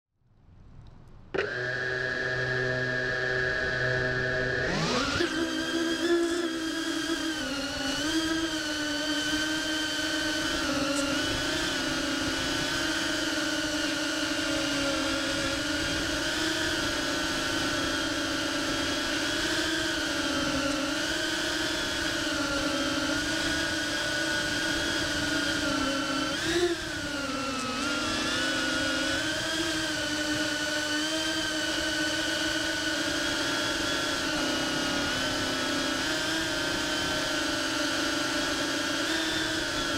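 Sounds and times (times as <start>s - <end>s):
drone motors whining: 0.9s - 39.9s.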